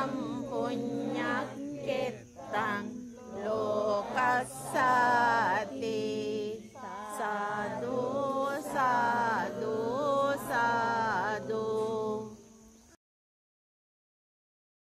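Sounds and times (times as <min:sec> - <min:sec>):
person chanting melodically: 0:00.0 - 0:12.8.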